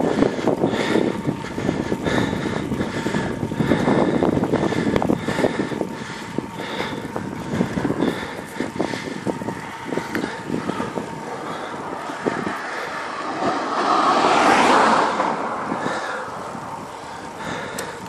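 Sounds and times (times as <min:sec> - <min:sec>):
wind rushing past camera: 0:00.0 - 0:18.0.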